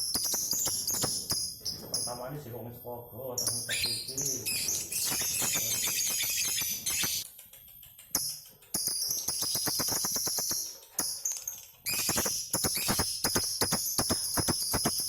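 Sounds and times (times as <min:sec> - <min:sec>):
lovebirds rattling trills: 0:00.0 - 0:15.0.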